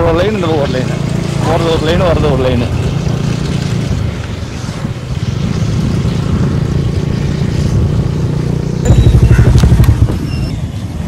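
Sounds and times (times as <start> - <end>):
motorcycle engine rumbling: 0.0 - 10.6
road and wind noise: 0.0 - 11.0.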